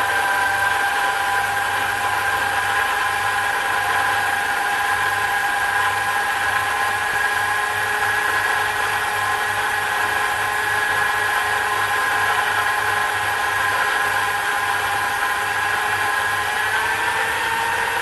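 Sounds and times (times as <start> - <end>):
metal lathe motor whining: 0.0 - 18.0.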